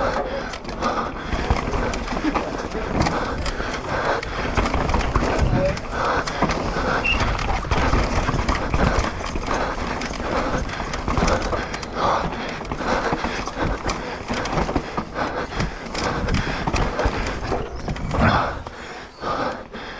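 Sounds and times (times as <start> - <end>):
bike tyres crunching on dirt: 0.0 - 19.5
bike clattering and rattling: 0.0 - 19.9.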